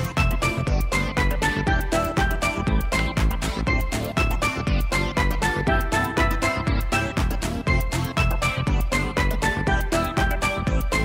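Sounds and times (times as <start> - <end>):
music with beat and bright melody: 0.0 - 11.0.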